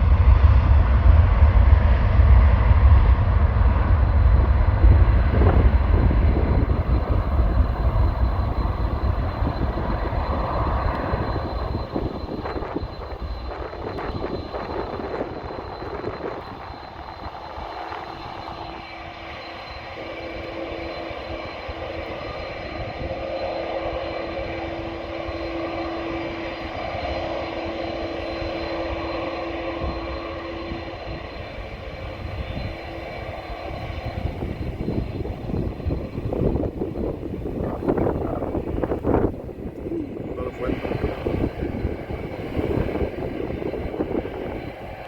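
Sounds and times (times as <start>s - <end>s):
jet engines rumbling: 0.0s - 45.0s.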